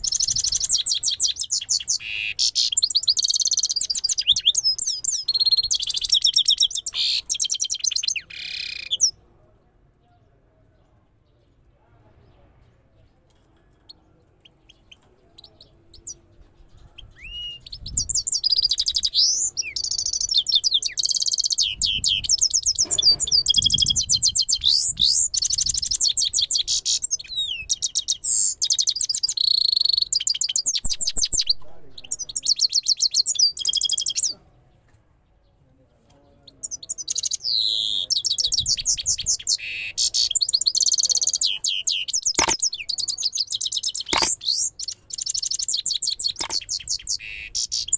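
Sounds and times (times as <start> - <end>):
bird singing twittering trills: 0.0 - 9.2, 13.0 - 34.4, 36.2 - 47.9.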